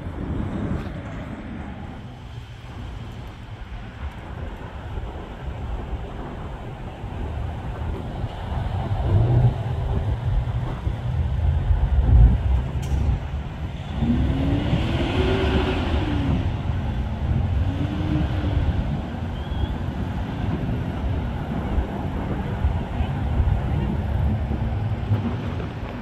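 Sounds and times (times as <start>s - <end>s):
airplane engine: 0.0s - 26.0s
steady low rumble: 0.0s - 26.0s.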